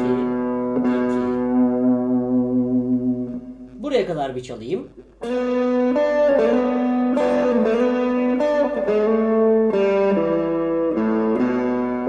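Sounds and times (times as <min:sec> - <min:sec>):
electric guitar playing blues: 0:00.0 - 0:03.8, 0:05.0 - 0:12.0.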